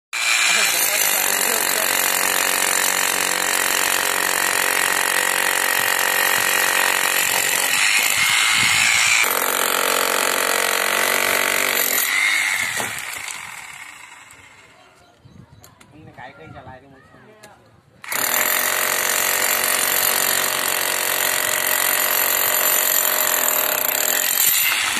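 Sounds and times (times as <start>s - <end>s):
hammer drill breaking concrete: 0.2s - 14.5s, 18.0s - 24.9s.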